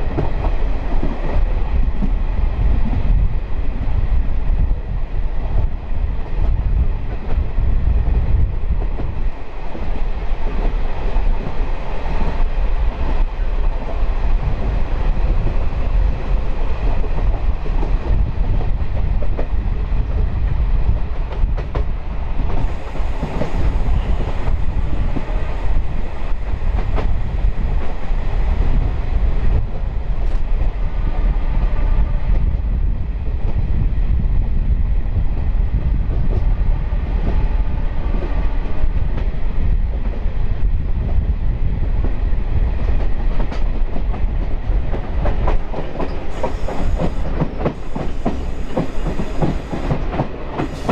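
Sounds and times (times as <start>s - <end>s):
train wheels and engine rumble: 0.0s - 50.9s.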